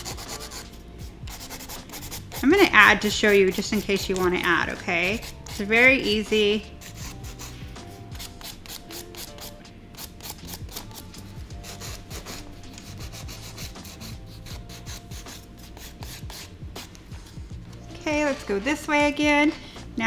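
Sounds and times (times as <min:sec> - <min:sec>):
nail file rubbing on nail: 0:00.0 - 0:17.6.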